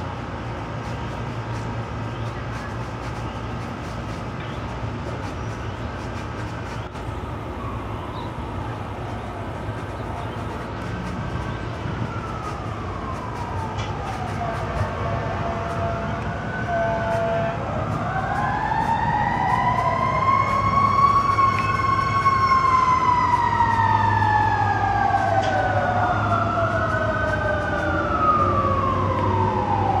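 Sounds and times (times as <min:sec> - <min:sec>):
emergency sirens wailing: 0:04.6 - 0:30.0.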